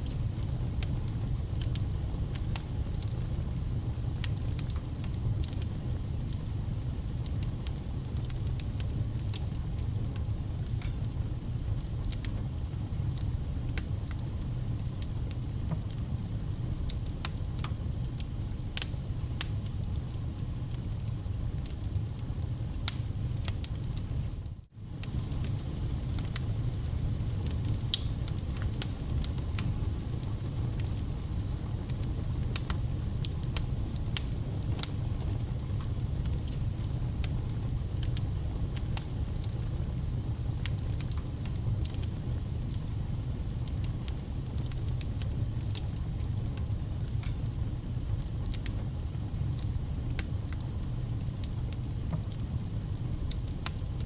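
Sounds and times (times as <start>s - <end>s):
fire rumbling: 0.0s - 54.0s
wood crackling and popping: 0.0s - 54.0s.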